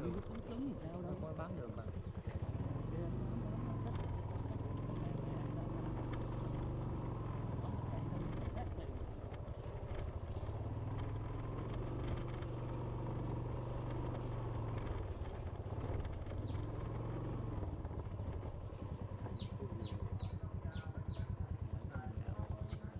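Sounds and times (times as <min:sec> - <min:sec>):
small motorbike engine running: 0:00.0 - 0:22.9.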